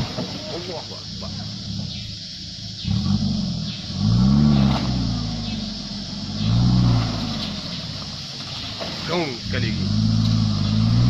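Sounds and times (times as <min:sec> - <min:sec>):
off-road engine revving: 0:00.0 - 0:11.0.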